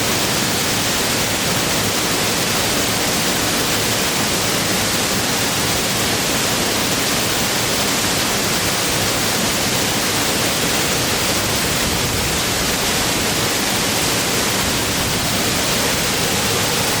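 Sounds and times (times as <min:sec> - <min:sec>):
waterfall pouring and splashing: 0:00.0 - 0:17.0.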